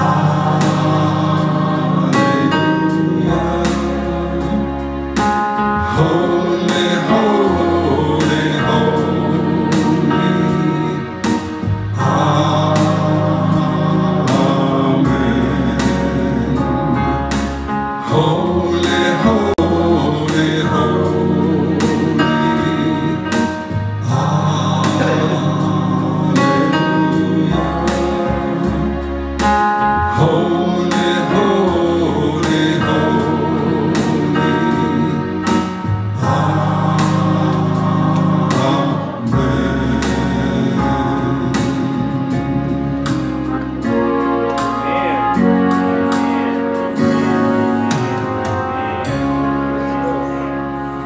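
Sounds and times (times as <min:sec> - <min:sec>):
keyboard accompaniment: 0:00.0 - 0:51.0
voices singing gospel song: 0:00.0 - 0:51.0.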